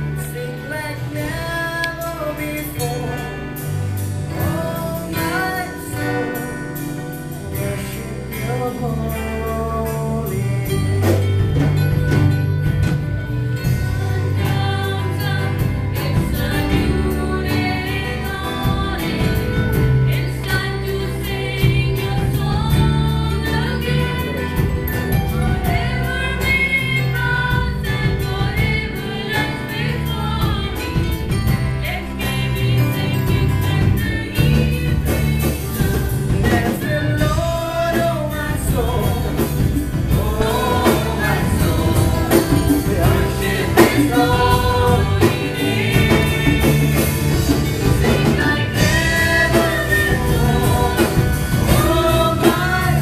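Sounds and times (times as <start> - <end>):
acoustic guitar: 0.0 - 53.0
keyboard: 0.0 - 53.0
voices singing together: 0.0 - 53.0.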